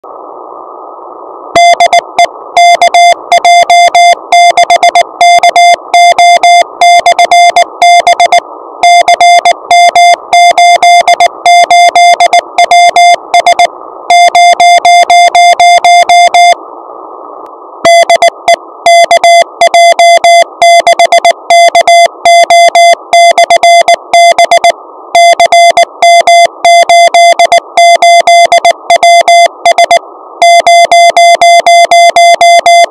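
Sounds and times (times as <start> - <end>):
morse code tone: 1.6 - 16.6, 17.8 - 32.9.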